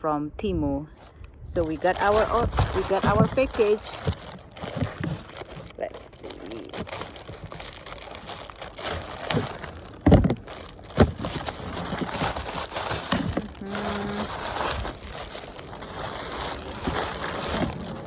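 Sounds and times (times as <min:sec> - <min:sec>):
plastic package crinkling: 0:01.0 - 0:18.0.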